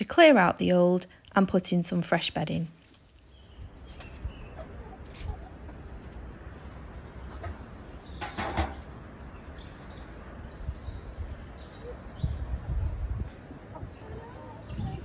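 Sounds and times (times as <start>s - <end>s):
small birds chirping: 2.8s - 15.0s.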